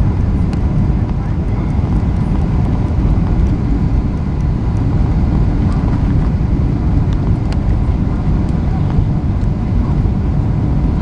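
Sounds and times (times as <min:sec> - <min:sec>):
aircraft cabin engine roar: 0:00.0 - 0:11.0.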